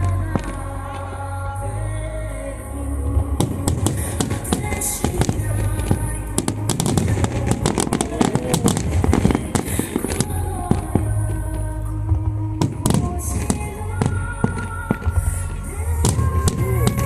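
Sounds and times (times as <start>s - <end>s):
fireworks bursting and crackling: 0.0s - 1.6s, 2.9s - 17.0s
music playing: 0.0s - 17.0s.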